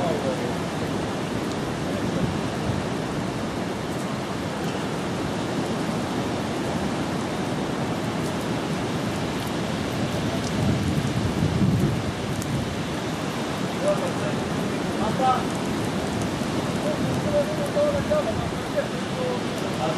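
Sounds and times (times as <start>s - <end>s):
seashore rushing: 0.0s - 19.9s.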